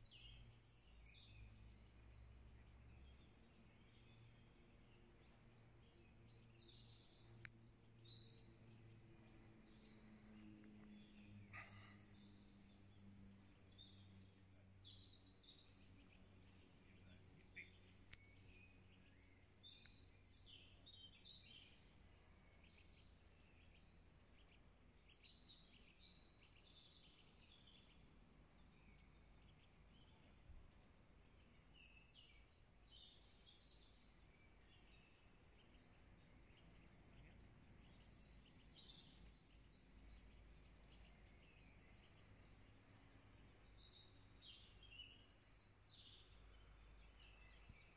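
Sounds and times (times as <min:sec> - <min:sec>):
faint birdsong chirps and trills: 0:00.0 - 0:47.9.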